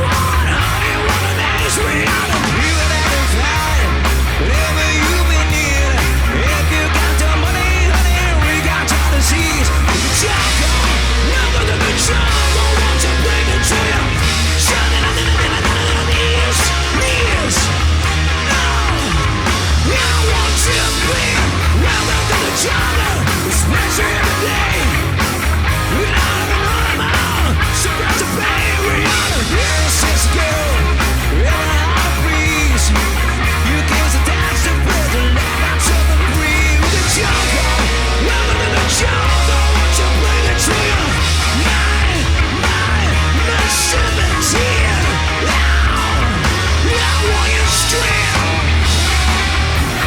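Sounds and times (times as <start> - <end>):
person singing: 0.0 - 49.5
rock band playing live: 0.0 - 50.0.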